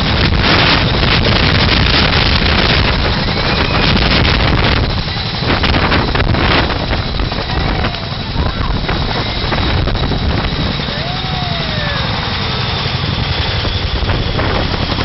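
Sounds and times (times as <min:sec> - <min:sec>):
helicopter flying low: 0:00.0 - 0:15.0.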